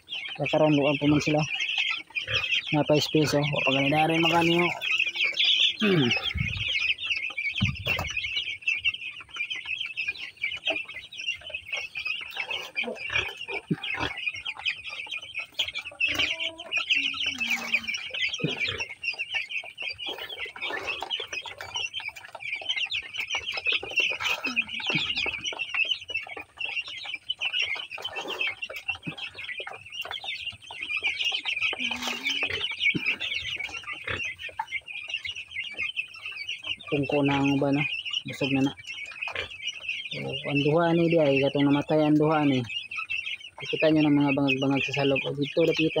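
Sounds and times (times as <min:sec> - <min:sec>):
chicks peeping in chorus: 0:00.0 - 0:46.0.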